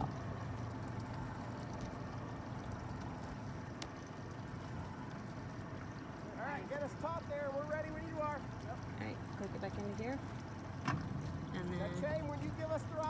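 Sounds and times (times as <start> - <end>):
outboard motor idling: 0.0 - 13.0
water lapping at boat: 0.0 - 13.0.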